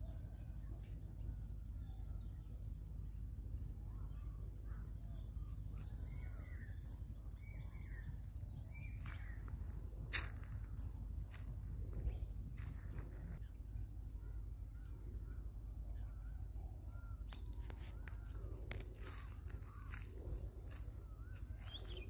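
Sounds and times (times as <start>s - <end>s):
birds calling: 0.0s - 22.0s
low background rumble: 0.0s - 22.0s.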